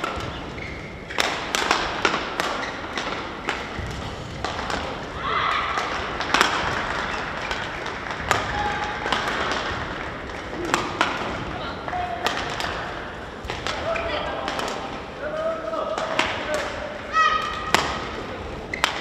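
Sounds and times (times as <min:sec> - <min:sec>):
rackets hitting shuttlecock: 0:00.0 - 0:15.2, 0:15.8 - 0:19.0.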